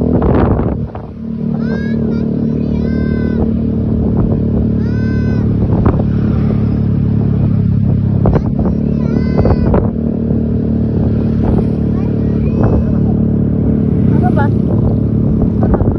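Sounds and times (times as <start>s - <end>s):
bus engine droning: 0.0s - 15.9s.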